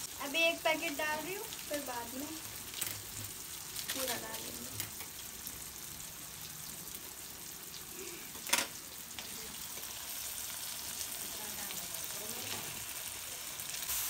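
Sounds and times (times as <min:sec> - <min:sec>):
onions and tomatoes sizzling in oil: 0:00.0 - 0:14.0.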